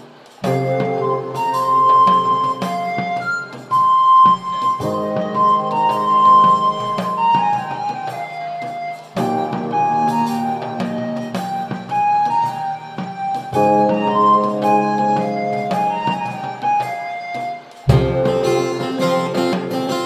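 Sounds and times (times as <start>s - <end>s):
instrumental music with flute melody: 0.0s - 20.0s.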